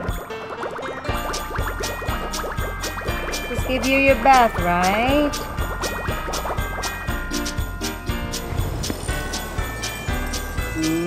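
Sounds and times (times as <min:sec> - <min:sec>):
music with jingle bells: 0:01.0 - 0:11.0.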